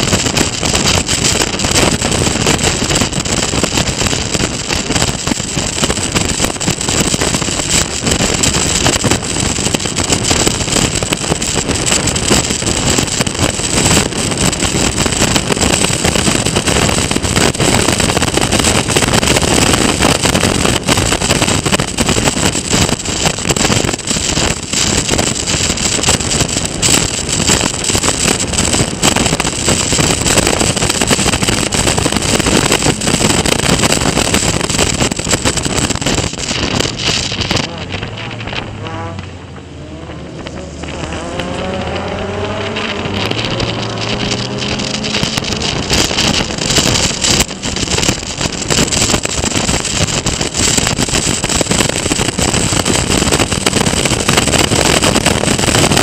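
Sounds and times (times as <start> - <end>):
race car engine pulling hard: 0.0 - 56.0
wind buffeting: 0.0 - 56.0.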